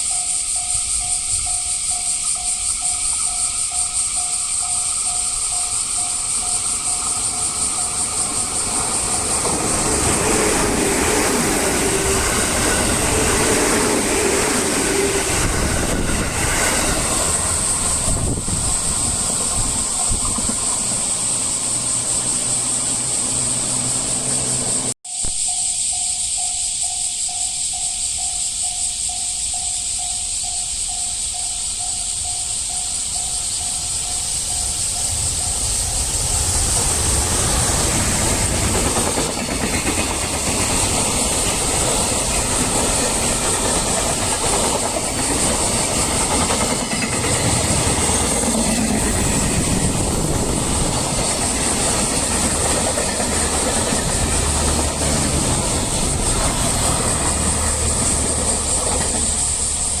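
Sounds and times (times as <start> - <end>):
level-crossing warning bell: 0.0 - 60.0
train wheels on rails: 0.0 - 60.0.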